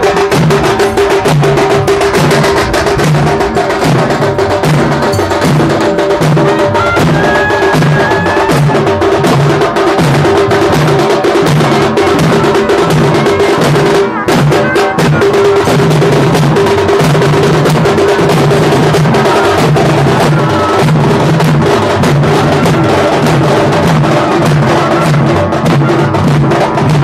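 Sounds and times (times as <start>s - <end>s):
barrel drums beaten in rhythm: 0.0s - 27.0s.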